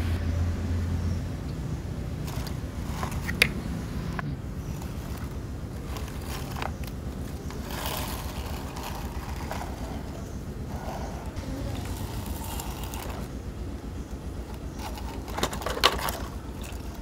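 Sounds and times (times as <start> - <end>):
steady low rumble: 0.0 - 17.0
plastic toys scraping on concrete: 2.2 - 13.5, 14.4 - 17.0.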